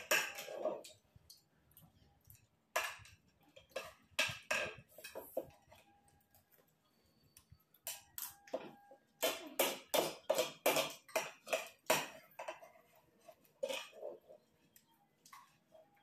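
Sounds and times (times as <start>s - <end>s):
spoons scraping ceramic plates: 0.0s - 1.0s, 2.4s - 6.0s, 7.8s - 16.0s.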